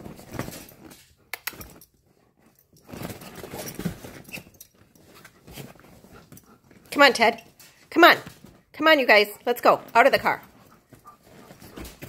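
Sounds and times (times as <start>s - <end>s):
dogs scuffling: 0.0s - 12.0s
collar tags and claws clicking: 0.1s - 12.0s
soft low dog noises: 0.9s - 8.7s, 9.8s - 12.0s.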